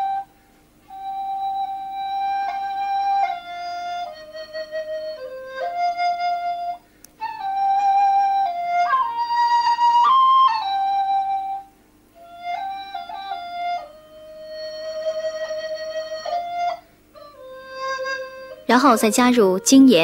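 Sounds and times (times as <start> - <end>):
flute playing slow melody: 0.0 - 19.7.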